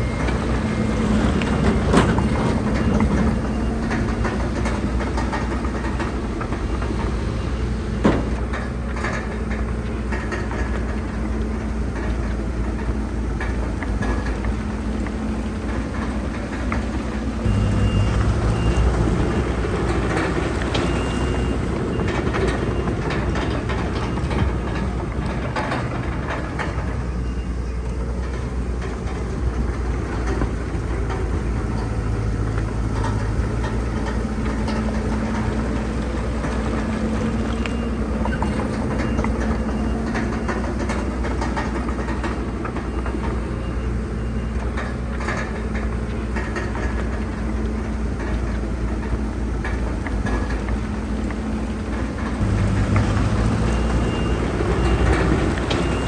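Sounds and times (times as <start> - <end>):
bulldozer engine running: 0.0 - 56.0
steel tracks clanking: 0.0 - 56.0.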